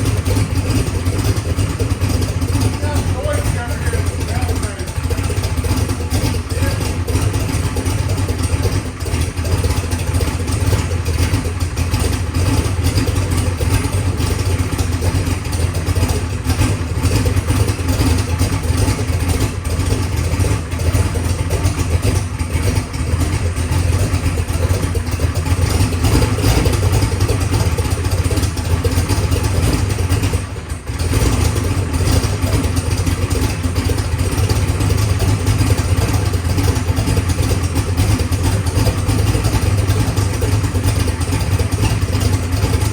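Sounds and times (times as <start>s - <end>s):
drag car engine idling: 0.0s - 42.9s.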